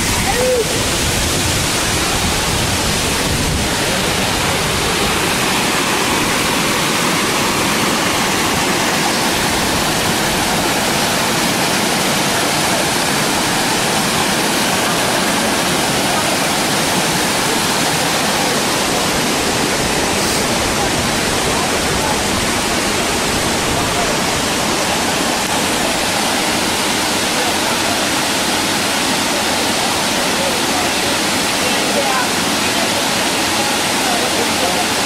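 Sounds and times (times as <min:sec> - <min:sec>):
waterfall rushing over rocks: 0:00.0 - 0:35.0.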